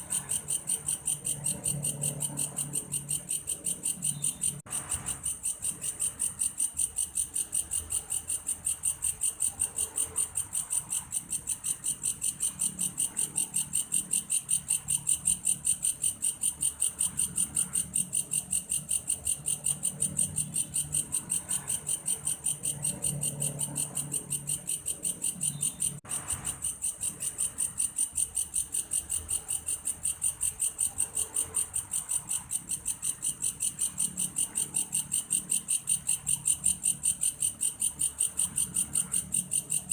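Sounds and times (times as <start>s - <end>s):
grasshopper chirping: 0.0s - 39.9s.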